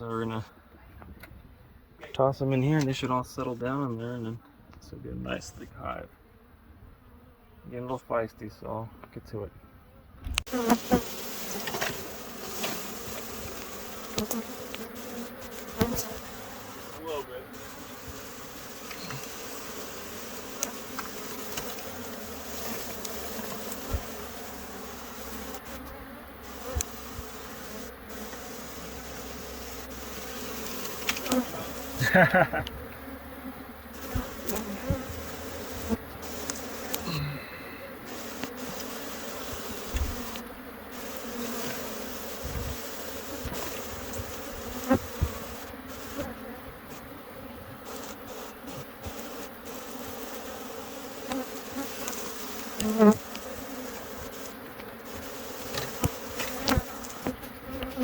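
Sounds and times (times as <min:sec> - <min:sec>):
bee swarm buzzing: 0:02.4 - 0:09.0, 0:10.0 - 0:58.0
bee buzz swooping in pitch: 0:10.5 - 0:58.0.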